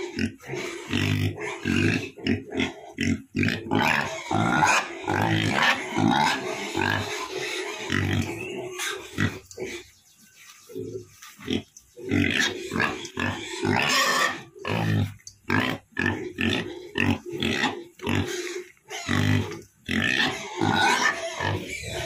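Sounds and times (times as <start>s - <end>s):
pigs grunting: 0.0s - 10.0s, 10.7s - 22.0s.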